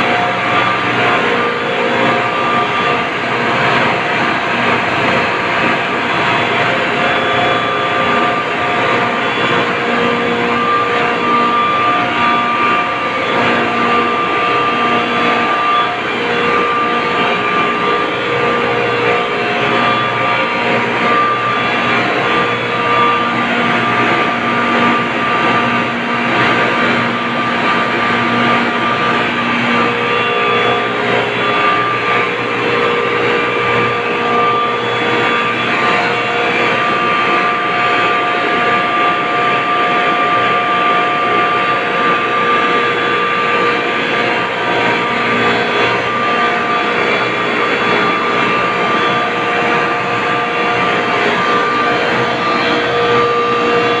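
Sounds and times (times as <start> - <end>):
refrigeration compressors droning: 0.0 - 54.0
steady machine whining tones: 0.0 - 54.0.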